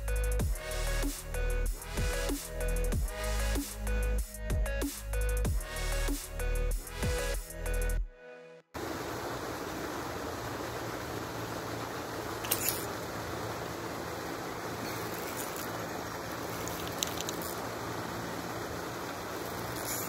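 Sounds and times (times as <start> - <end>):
outdoor hiss: 0.0 - 8.0, 8.8 - 20.0.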